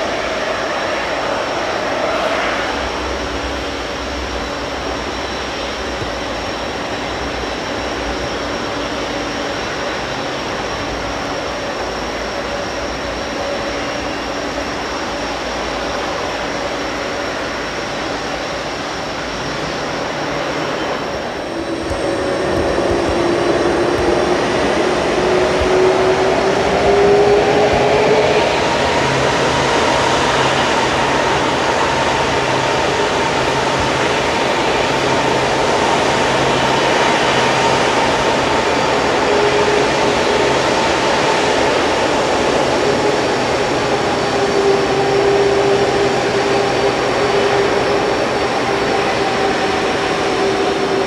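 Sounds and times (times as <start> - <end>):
jet engines running: 0.0 - 51.0.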